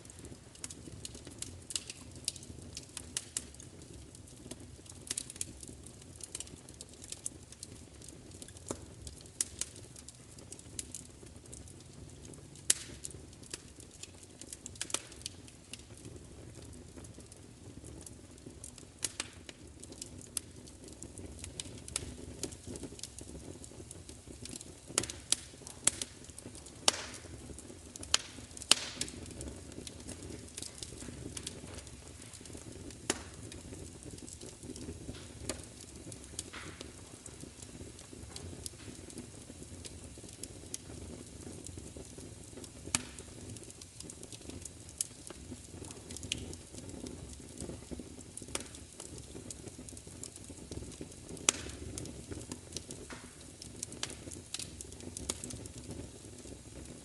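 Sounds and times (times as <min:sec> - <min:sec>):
fire popping and snapping: 0:00.0 - 0:57.0
low rumble of burning: 0:00.0 - 0:57.0
wood fire crackling: 0:00.0 - 0:57.0.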